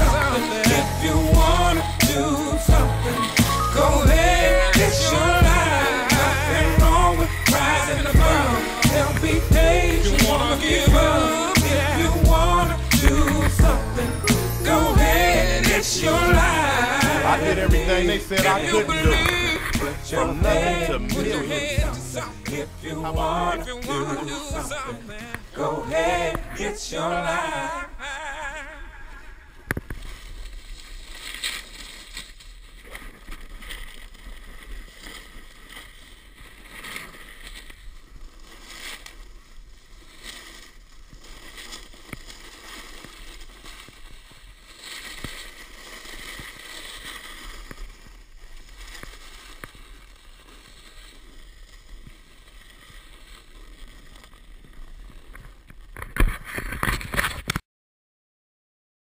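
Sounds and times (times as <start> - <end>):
snow spraying: 0.0 - 28.7, 29.3 - 55.7
snowboard scraping over snow: 0.0 - 28.7, 29.8 - 56.8.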